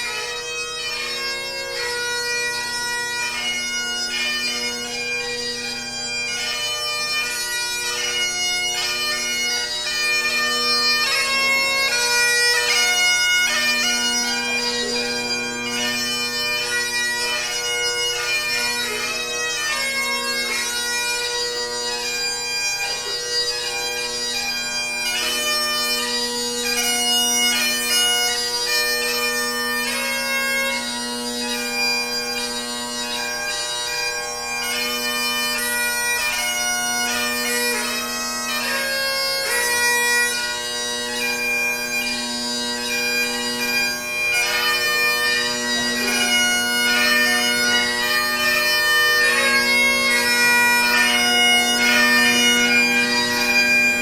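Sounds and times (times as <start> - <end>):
bagpipes playing a tune: 0.0 - 54.0.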